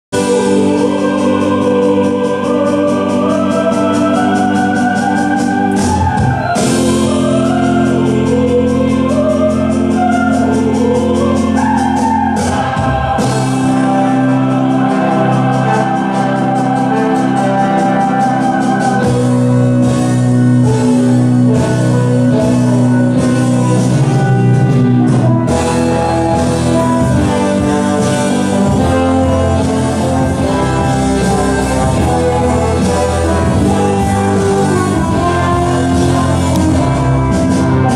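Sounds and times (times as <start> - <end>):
singing voices gliding in pitch: 0.2 - 37.9
sustained synth chords: 0.2 - 37.9
steady beat: 0.6 - 37.9.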